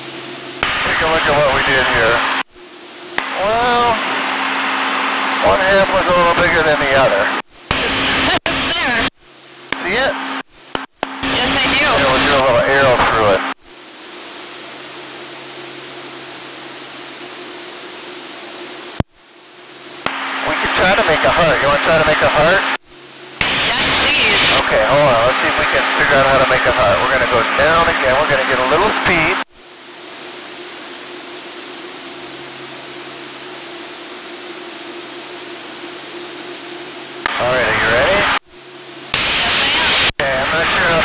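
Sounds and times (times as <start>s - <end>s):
electronic static hiss: 0.0s - 41.0s
faint steady hum: 0.0s - 41.0s.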